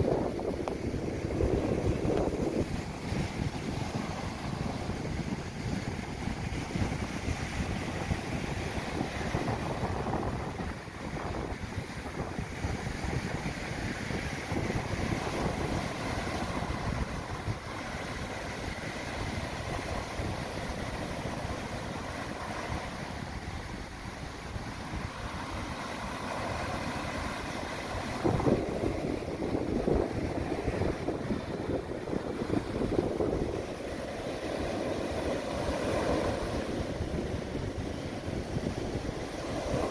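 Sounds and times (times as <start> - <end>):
sea waves breaking on beach: 0.0 - 39.9
wind buffeting microphone: 0.0 - 39.9.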